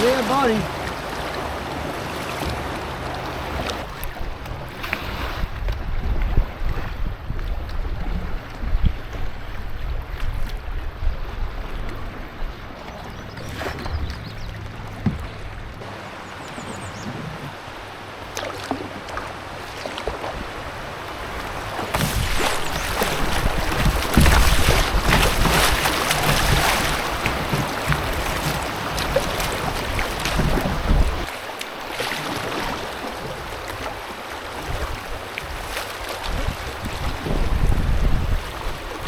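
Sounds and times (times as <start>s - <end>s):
wind buffeting microphone: 0.0s - 18.3s, 19.0s - 31.3s, 34.6s - 39.0s
water rushing and splashing: 0.0s - 39.0s.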